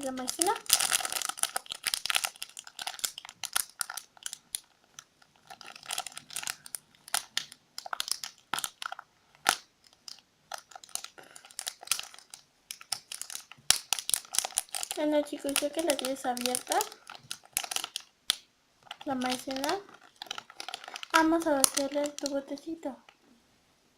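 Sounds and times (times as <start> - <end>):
packaging crinkling and tearing: 0.0 - 22.8.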